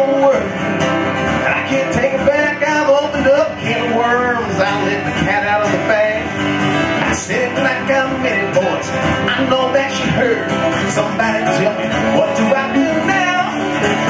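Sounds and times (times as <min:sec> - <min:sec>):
acoustic guitar strumming: 0:00.0 - 0:14.0
electric guitar strumming: 0:00.0 - 0:14.0
man singing: 0:00.0 - 0:14.0.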